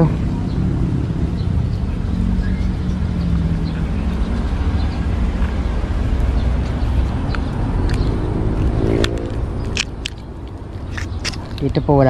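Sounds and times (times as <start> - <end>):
passing motor vehicle rumble: 0.0 - 12.0.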